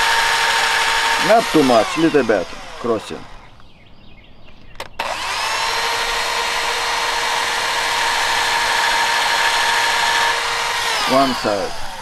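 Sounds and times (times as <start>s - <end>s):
power drill motor whine: 0.0s - 3.6s, 4.8s - 12.0s.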